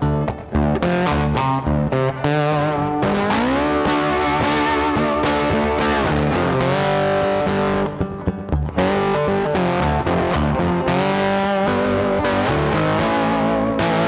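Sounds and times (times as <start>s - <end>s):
guitar background music: 0.0s - 14.0s.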